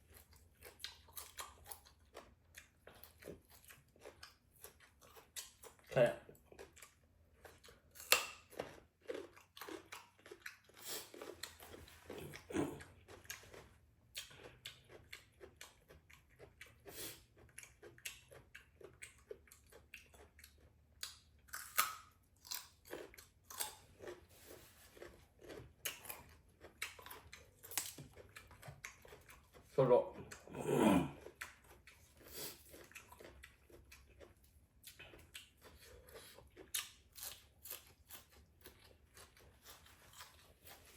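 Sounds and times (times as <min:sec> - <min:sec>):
person chewing noodles: 0:00.0 - 0:40.9.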